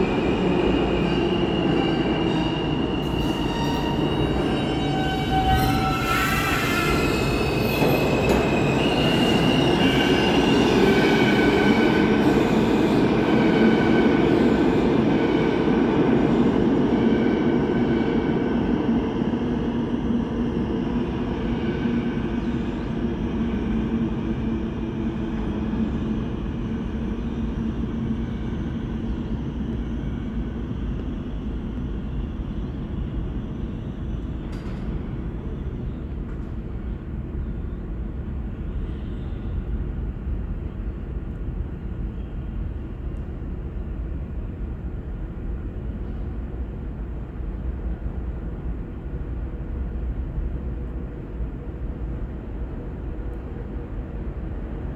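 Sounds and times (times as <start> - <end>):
subway train pulling away: 0.0 - 54.9.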